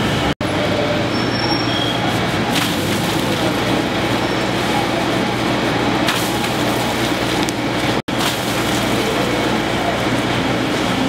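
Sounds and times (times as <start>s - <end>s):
engine and traffic noise: 0.0s - 11.0s.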